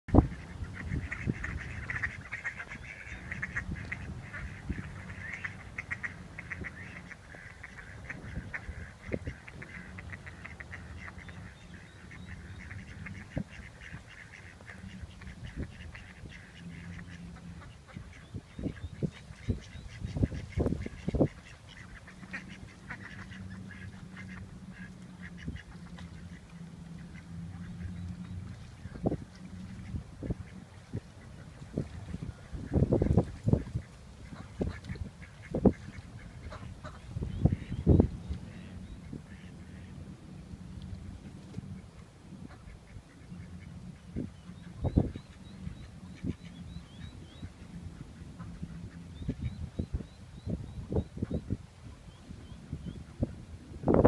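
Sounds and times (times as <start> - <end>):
ducks quacking: 0.1 - 54.0
low hum: 0.1 - 54.0.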